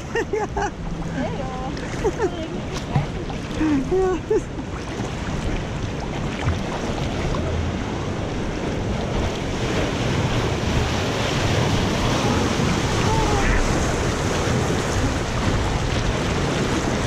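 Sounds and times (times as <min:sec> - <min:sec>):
rushing churning water: 0:00.0 - 0:17.0.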